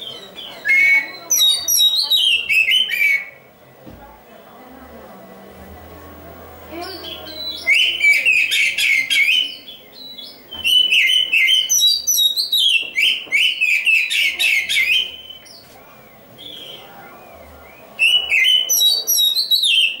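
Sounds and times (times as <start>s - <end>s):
bird singing whistled chattering notes: 0.0s - 3.4s, 6.9s - 20.0s.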